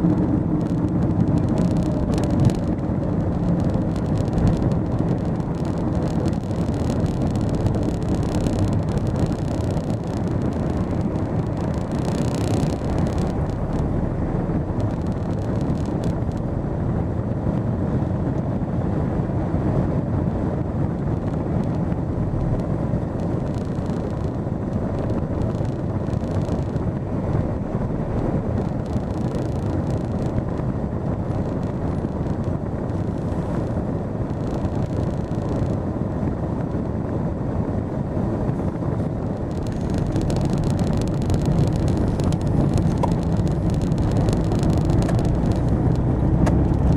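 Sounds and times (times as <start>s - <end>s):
car engine and road noise: 0.0s - 46.9s.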